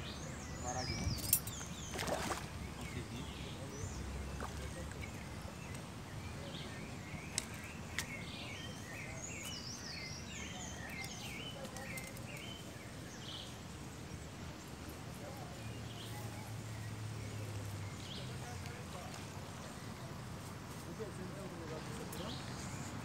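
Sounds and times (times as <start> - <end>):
birds chirping and singing: 0.0 - 20.0
outdoor background noise: 0.0 - 23.0.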